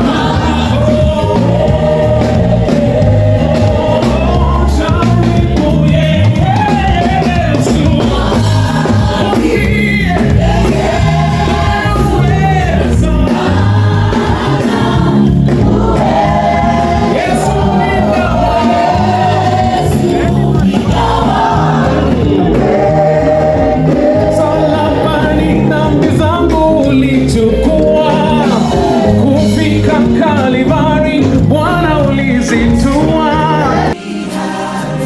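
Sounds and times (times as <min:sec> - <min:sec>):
choir singing: 0:00.0 - 0:26.1, 0:27.5 - 0:30.2, 0:32.5 - 0:35.0
bass guitar: 0:00.0 - 0:34.0
drums: 0:00.0 - 0:34.4.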